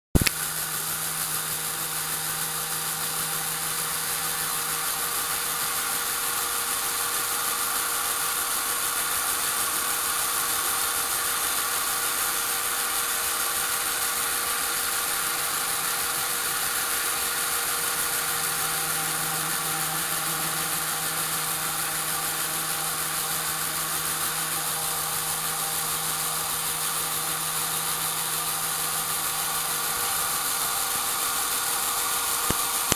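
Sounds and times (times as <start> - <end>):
electric motor whining with gear noise: 0.2 - 32.9.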